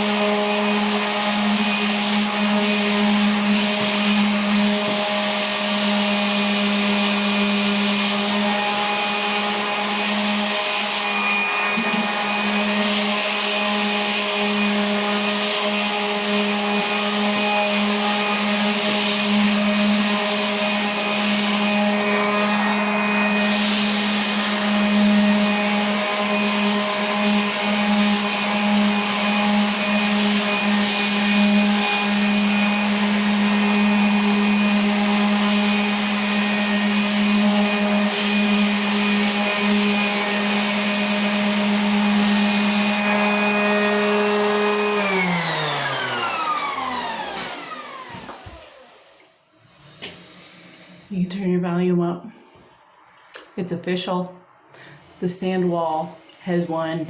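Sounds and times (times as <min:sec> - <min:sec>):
sandpaper rasping on wall: 0:00.0 - 0:46.4
sander motor hum: 0:00.0 - 0:51.1.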